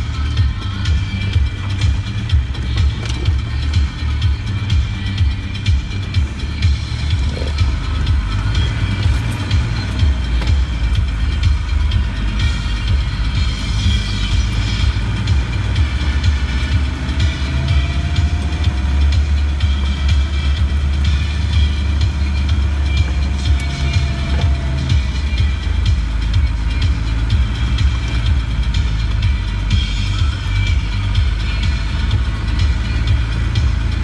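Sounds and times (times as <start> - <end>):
car body rattling: 0.0 - 34.0
low diesel engine drone: 0.0 - 34.0.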